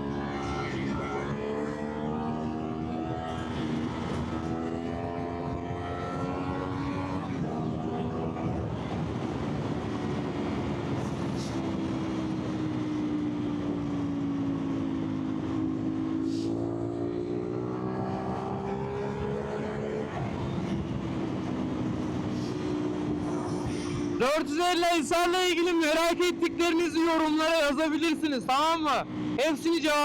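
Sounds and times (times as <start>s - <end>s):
road and wind noise: 0.0s - 30.0s.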